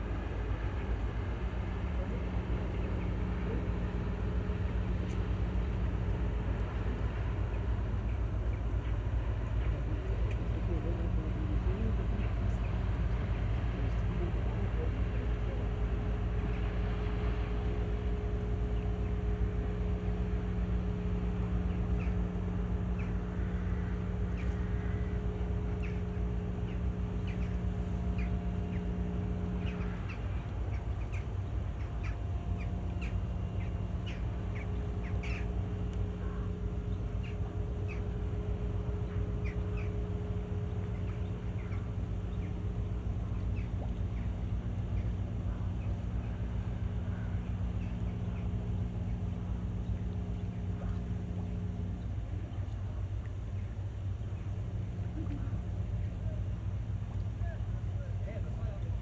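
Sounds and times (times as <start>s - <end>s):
ship engine drone: 0.0s - 59.0s
bird calls: 0.1s - 59.0s.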